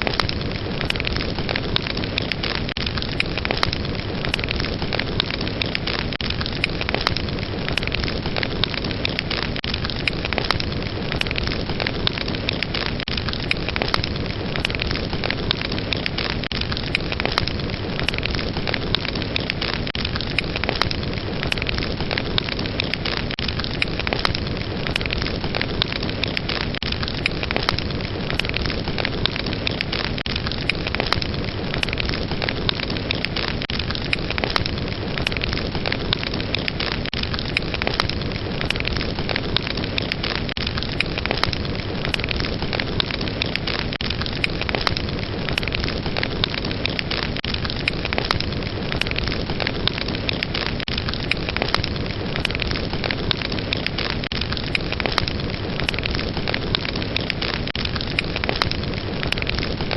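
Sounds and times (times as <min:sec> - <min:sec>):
fire crackling and hissing: 0:00.0 - 0:59.9.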